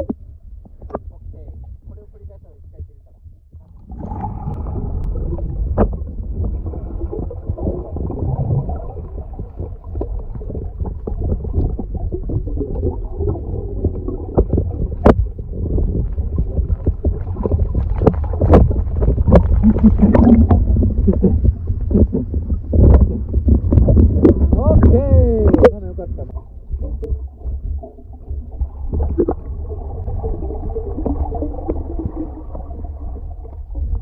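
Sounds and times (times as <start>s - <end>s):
low underwater rumble: 0.0s - 34.0s.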